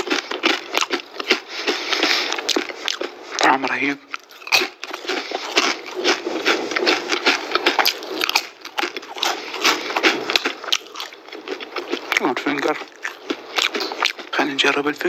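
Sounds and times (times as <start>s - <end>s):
chewing crunchy chips: 0.0s - 15.0s.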